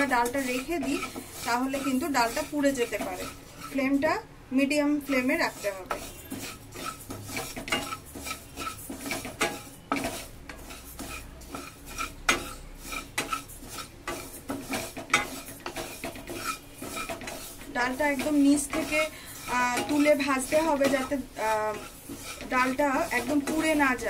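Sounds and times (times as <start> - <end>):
wooden spatula scraping lentils in pan: 0.0 - 24.0.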